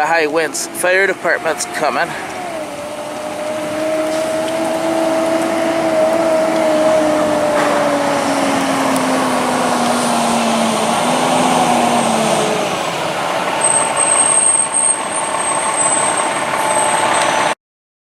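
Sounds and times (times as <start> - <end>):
heavy truck engine running: 0.0 - 17.6.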